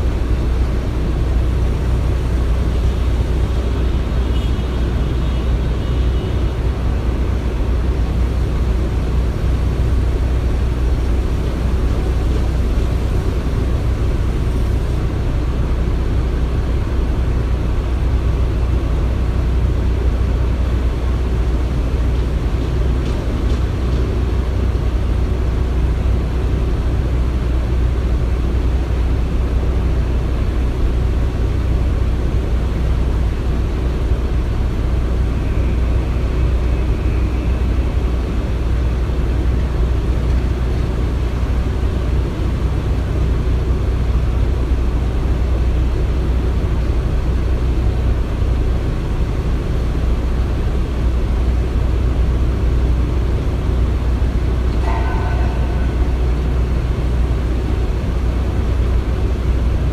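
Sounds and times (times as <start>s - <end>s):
construction machinery rumbling: 0.0s - 59.9s.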